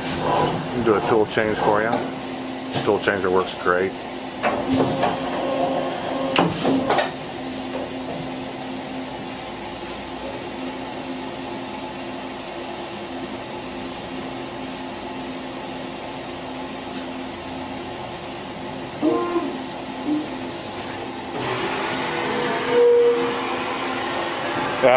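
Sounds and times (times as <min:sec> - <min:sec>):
machine hum with whine: 0:00.0 - 0:24.9.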